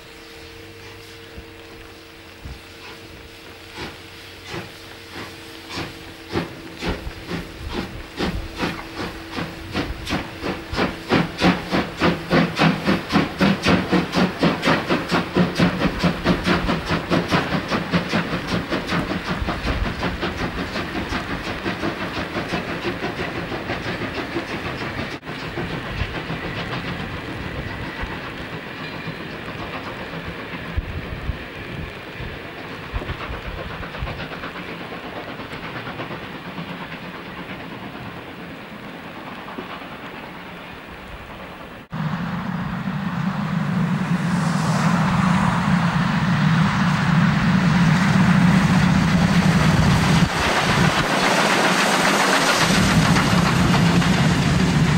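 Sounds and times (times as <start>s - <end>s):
steam hissing: 0.0s - 54.9s
steam locomotive exhaust chuffs: 0.0s - 54.9s
train wheel clatter and rumble: 0.0s - 54.9s.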